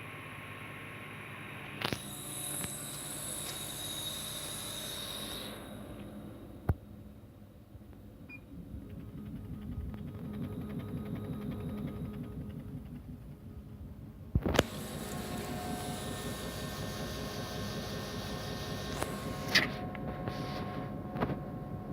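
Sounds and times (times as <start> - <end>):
laser cutter mechanical hum: 0.0 - 7.4, 8.2 - 21.9.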